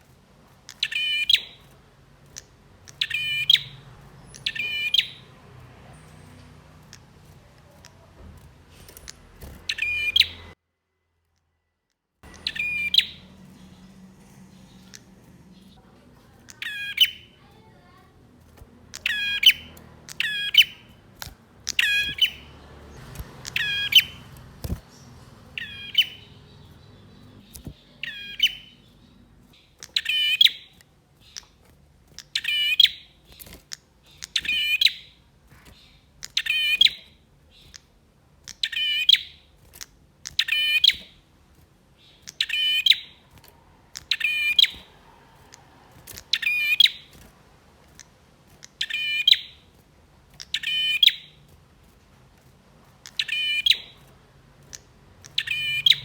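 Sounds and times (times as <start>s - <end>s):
bird rattling chirps: 0.0s - 10.6s, 12.2s - 56.0s.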